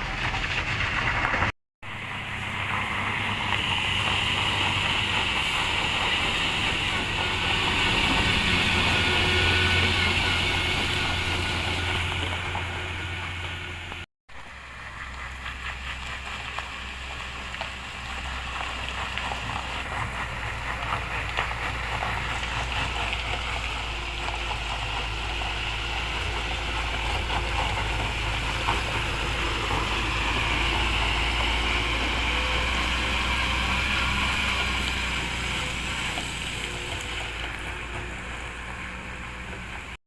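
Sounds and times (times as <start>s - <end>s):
diesel truck engine droning: 0.0s - 40.0s.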